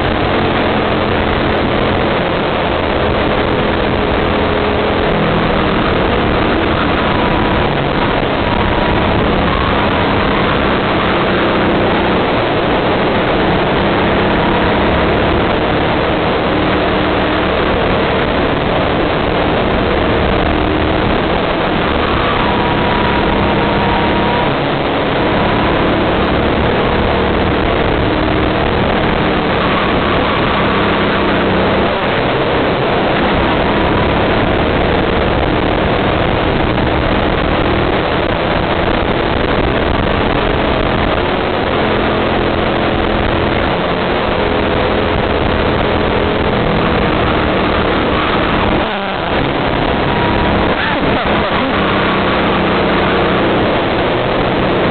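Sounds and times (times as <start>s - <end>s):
kart engine running hard: 0.0s - 54.9s
wind noise rushing: 0.0s - 54.9s.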